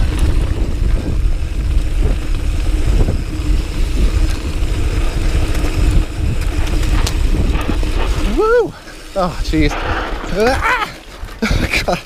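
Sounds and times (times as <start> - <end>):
bike frame rattling: 0.0 - 12.0
bike tyres rumbling on dirt: 0.0 - 12.0
wind buffeting microphone: 0.0 - 12.0.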